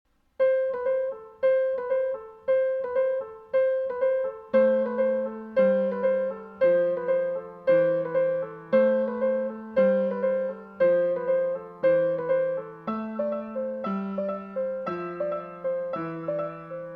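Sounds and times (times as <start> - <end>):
piano music: 0.4 - 16.9.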